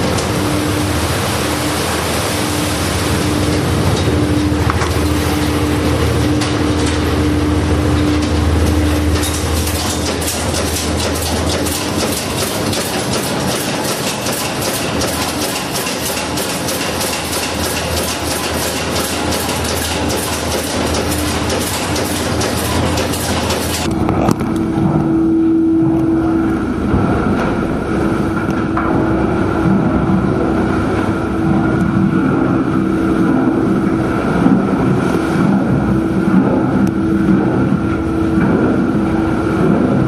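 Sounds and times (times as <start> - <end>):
boat machinery hum: 0.0 - 40.0.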